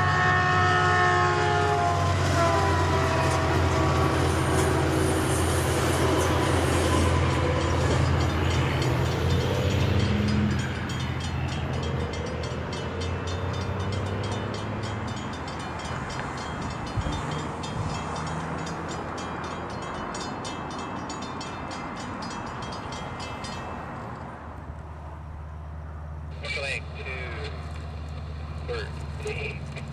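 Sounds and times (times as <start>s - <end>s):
locomotive engine: 0.0s - 29.9s
train wheels on rails clicking: 3.1s - 24.9s, 27.5s - 29.9s.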